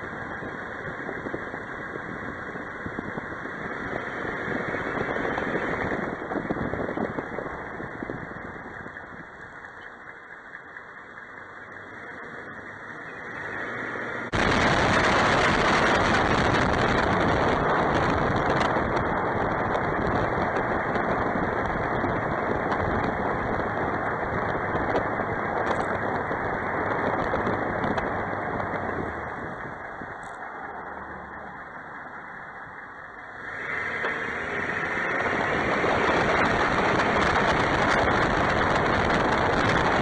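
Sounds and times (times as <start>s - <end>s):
truck road and engine noise: 0.0s - 40.0s.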